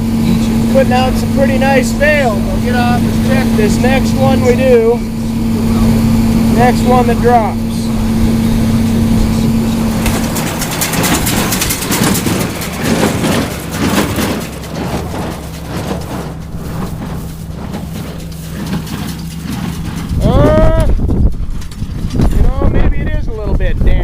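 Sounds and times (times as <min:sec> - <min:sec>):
tractor diesel engine running: 0:00.0 - 0:24.0
baler clattering: 0:00.3 - 0:22.9.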